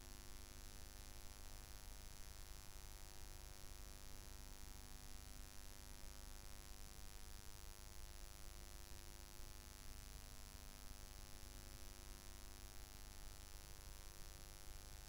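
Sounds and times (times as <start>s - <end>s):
faint electrical mains hum: 0.0s - 15.0s.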